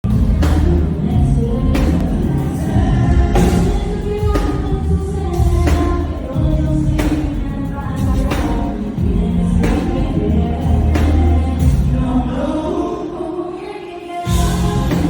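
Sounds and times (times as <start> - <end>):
pop music with group vocals: 0.0 - 15.0.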